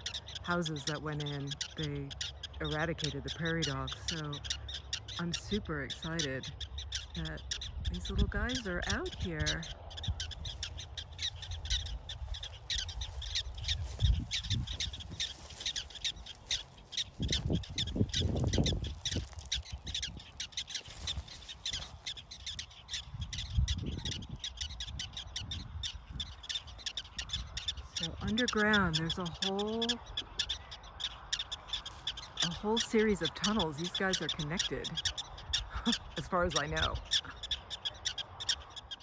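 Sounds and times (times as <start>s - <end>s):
prairie dog alarm chirps: 0.0s - 39.0s.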